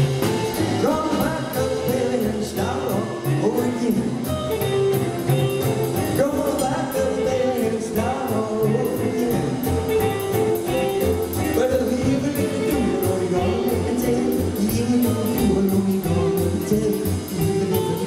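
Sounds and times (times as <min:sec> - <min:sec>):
drums keeping a steady beat: 0:00.0 - 0:18.0
electric guitar: 0:00.0 - 0:18.0
man singing: 0:00.0 - 0:18.0.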